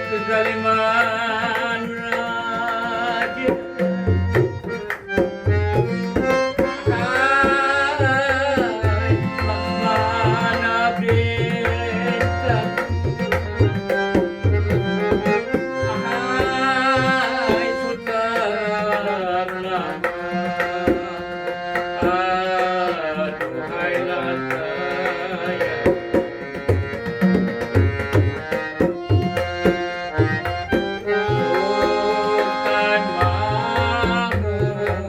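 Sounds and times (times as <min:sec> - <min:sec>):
tabla drumming: 0:00.0 - 0:35.0.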